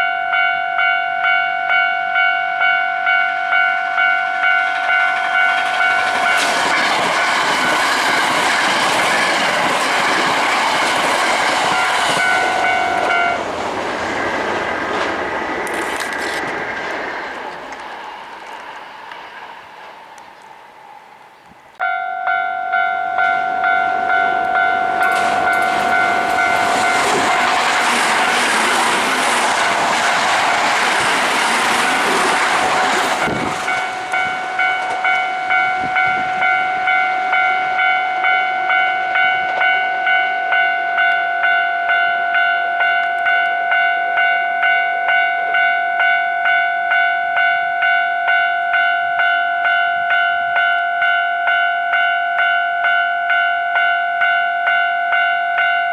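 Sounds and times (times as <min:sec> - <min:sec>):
level crossing warning bell: 0:00.0 - 0:17.0, 0:19.8 - 0:55.9
electric train rushing past: 0:00.8 - 0:53.5.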